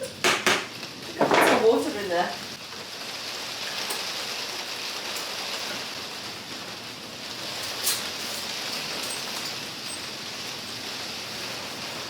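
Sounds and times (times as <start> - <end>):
heavy rain on roof: 0.0 - 12.0.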